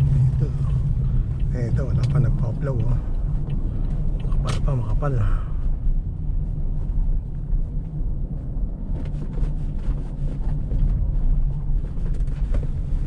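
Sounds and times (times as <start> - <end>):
car driving on snow: 0.0 - 13.0.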